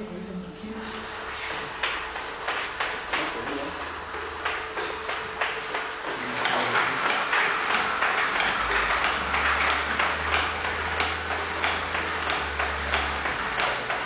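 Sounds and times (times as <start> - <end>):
low motor hum: 0.0 - 14.0
clockwork mechanism clicking: 1.8 - 14.0.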